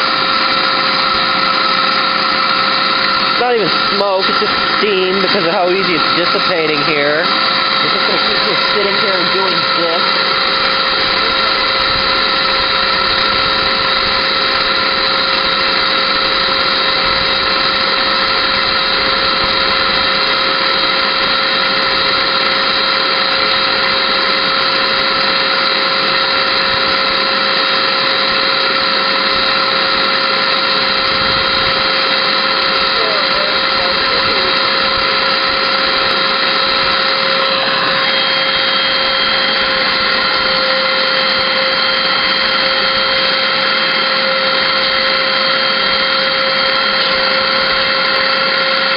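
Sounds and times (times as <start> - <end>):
vacuum cleaner motor whine: 0.0 - 48.9.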